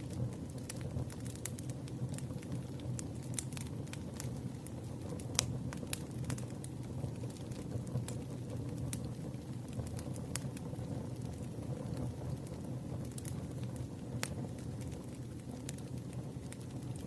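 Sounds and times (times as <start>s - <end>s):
burning wood rumble: 0.0s - 17.0s
campfire crackling: 0.0s - 17.0s.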